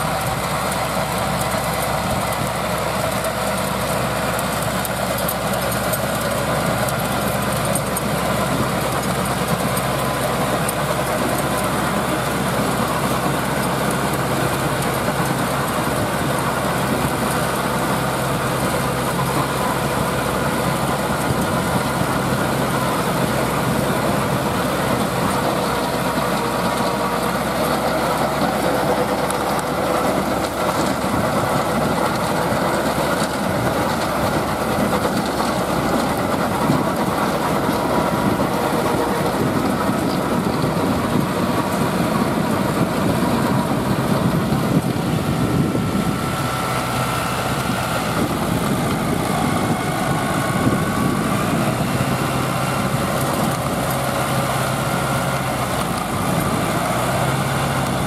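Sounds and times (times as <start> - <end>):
rotary tiller churning soil: 0.0 - 58.0
tractor diesel engine running: 0.0 - 58.0.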